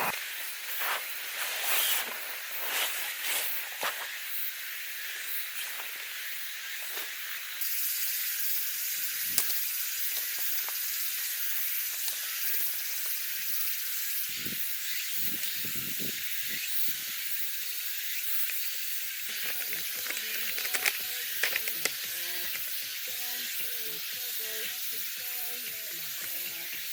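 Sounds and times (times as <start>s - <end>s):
food sizzling on camp stove: 0.0s - 26.9s.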